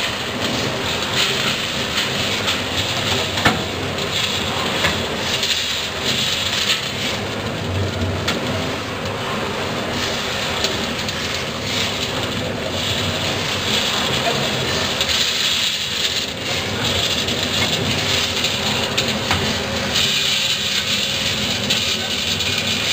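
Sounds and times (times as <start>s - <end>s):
coffee beans rattling: 0.0s - 22.9s
machine hum: 0.0s - 22.9s.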